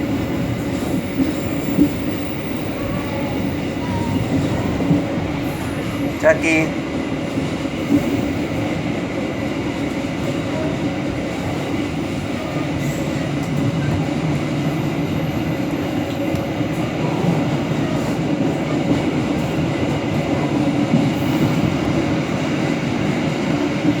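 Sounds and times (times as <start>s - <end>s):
train carriage rumbling on rails: 0.0s - 24.0s.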